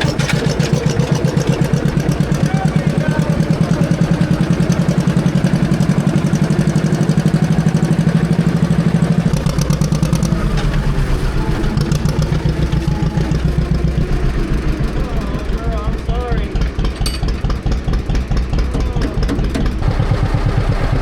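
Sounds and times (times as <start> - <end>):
deep rumble: 0.0 - 21.0
tractor engine pulsing: 0.0 - 21.0.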